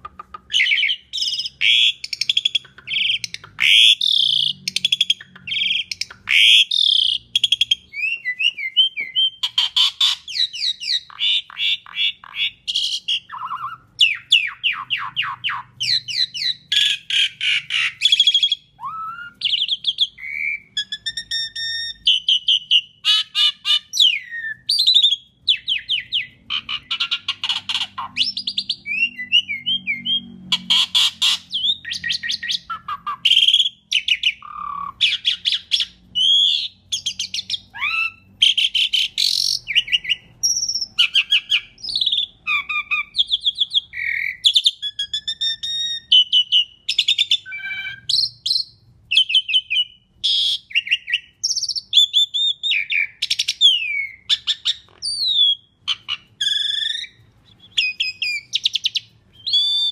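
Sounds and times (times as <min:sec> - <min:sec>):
starling singing trills and whistles: 0:00.2 - 0:59.9.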